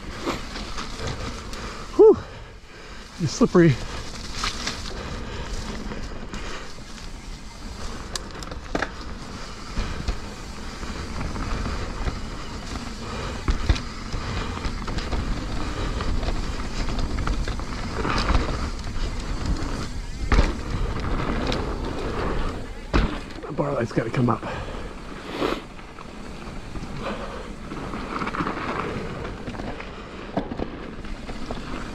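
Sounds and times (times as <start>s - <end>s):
bike rattling: 0.0s - 31.9s
bike tyres rumbling on dirt: 0.0s - 31.9s.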